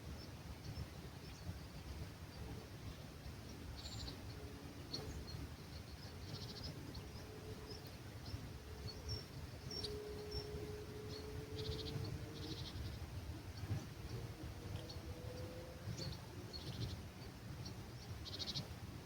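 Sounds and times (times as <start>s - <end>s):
faint steady hum: 0.0s - 19.0s
low rumble of breeze: 0.0s - 19.0s
small birds trilling and chirping: 0.0s - 19.0s.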